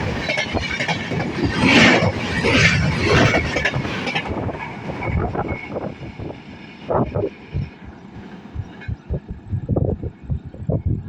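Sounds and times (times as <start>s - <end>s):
train wheels clattering on track: 0.0s - 9.4s.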